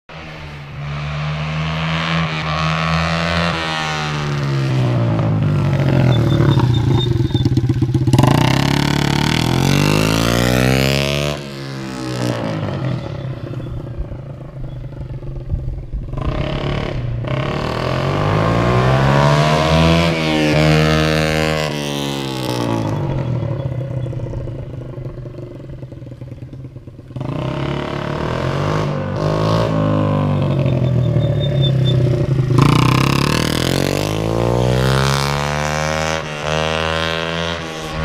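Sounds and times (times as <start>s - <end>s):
small motorcycle engine accelerating: 0.2s - 38.0s.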